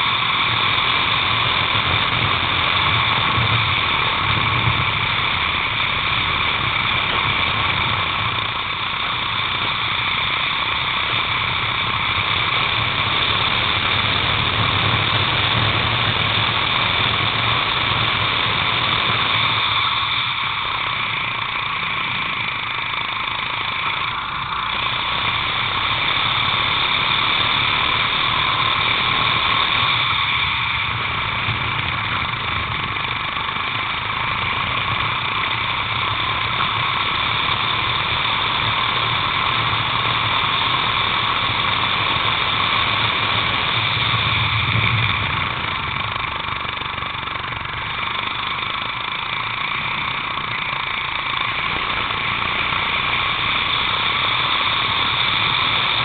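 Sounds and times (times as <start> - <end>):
kart engine at high revs: 0.0 - 56.0.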